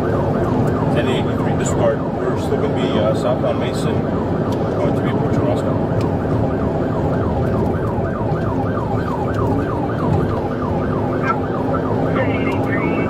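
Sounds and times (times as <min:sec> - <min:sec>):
car engine and road noise: 0:00.0 - 0:13.0
police siren yelping: 0:00.0 - 0:13.0.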